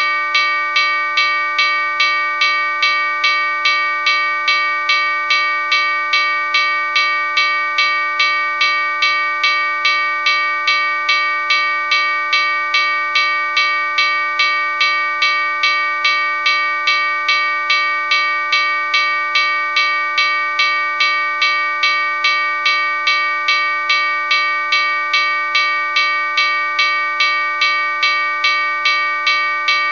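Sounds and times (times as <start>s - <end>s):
railroad crossing bell ringing: 0.0s - 29.9s.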